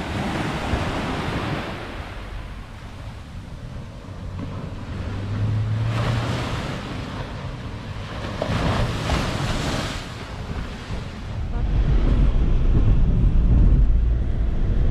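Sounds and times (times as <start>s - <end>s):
surf breaking on beach: 0.0s - 14.9s
wind rumbling on microphone: 0.0s - 14.9s.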